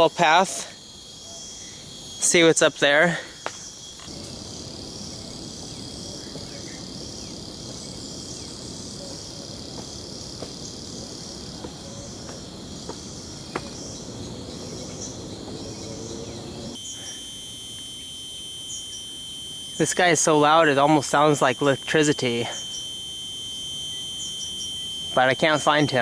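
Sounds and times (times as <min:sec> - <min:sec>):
crickets and insects chirring: 0:00.0 - 0:26.0
loud insect buzzing: 0:00.0 - 0:26.0.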